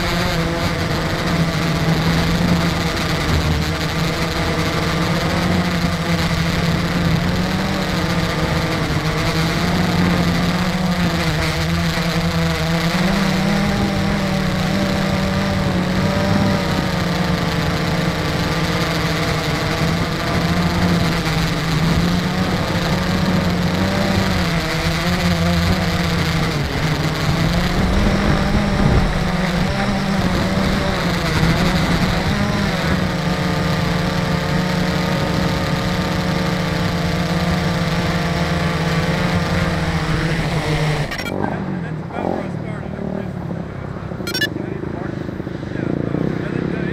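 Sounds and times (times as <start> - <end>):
drone propellers humming: 0.0 - 36.8, 38.7 - 41.4, 44.3 - 44.5.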